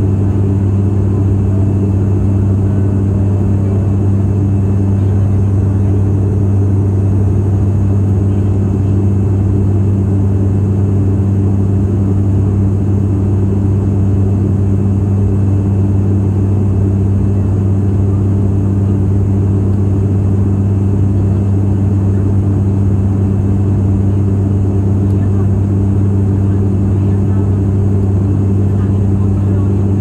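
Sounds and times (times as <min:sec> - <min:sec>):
propeller engine low hum: 0:00.0 - 0:30.0.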